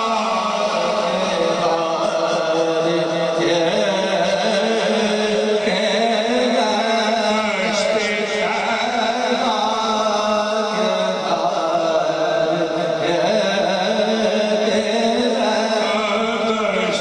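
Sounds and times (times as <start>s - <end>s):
men singing devotional chant: 0.0s - 17.0s.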